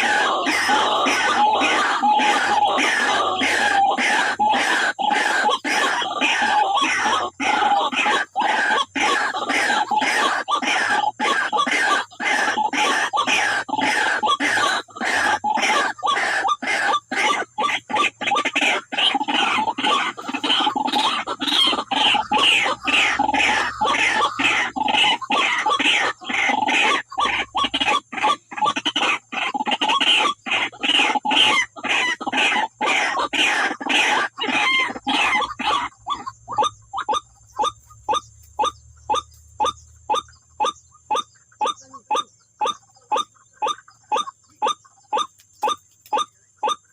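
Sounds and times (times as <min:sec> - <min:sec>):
waterhen harsh calls: 0:00.0 - 0:46.9.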